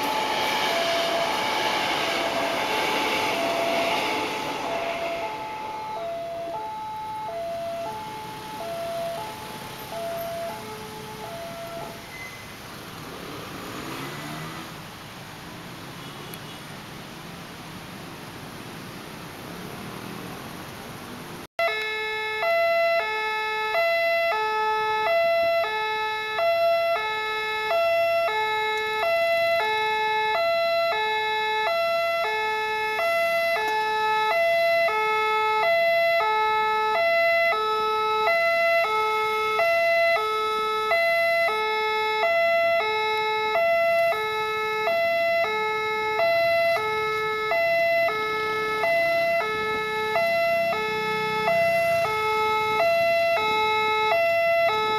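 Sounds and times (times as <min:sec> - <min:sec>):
level crossing two-tone alarm: 0:00.0 - 0:12.5, 0:21.6 - 0:54.9.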